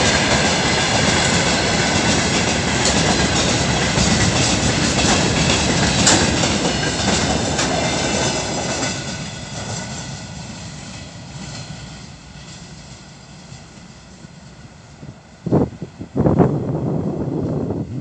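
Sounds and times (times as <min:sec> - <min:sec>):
freight train wheels clattering on rails: 0:00.0 - 0:15.2.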